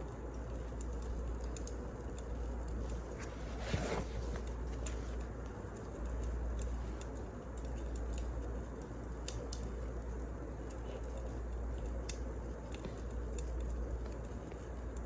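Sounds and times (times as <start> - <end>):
steady low hum: 0.0 - 15.0
wood fire crackling: 0.0 - 15.0.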